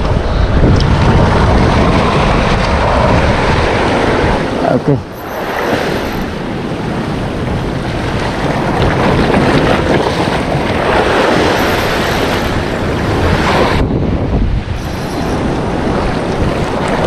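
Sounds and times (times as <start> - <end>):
sea waves washing ashore: 0.0 - 17.0
wind buffeting microphone: 0.0 - 17.0.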